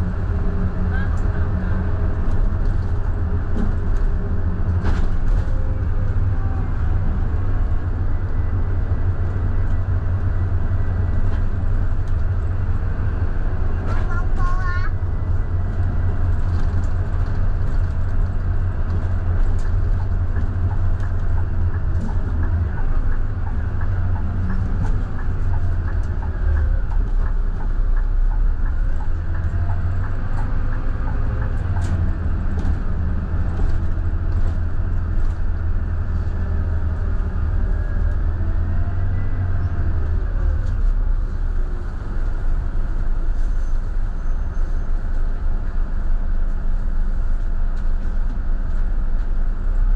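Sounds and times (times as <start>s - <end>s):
bus diesel engine droning: 0.0s - 49.9s.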